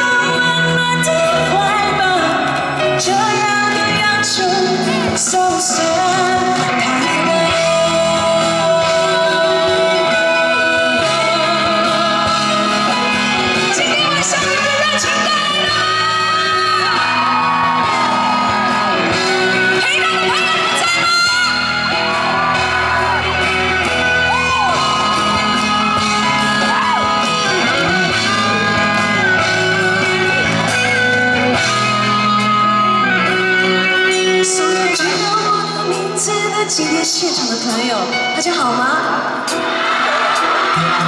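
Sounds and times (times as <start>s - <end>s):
guitar: 0.0s - 41.0s
live pop band playing: 0.0s - 41.0s.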